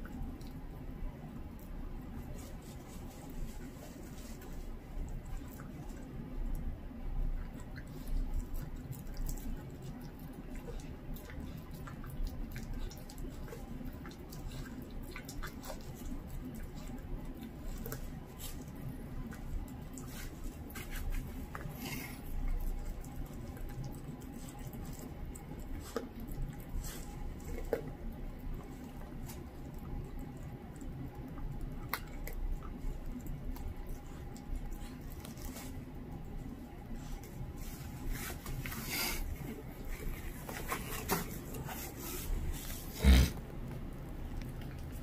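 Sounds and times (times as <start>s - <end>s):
dog chewing raw meat: 0.0s - 45.0s.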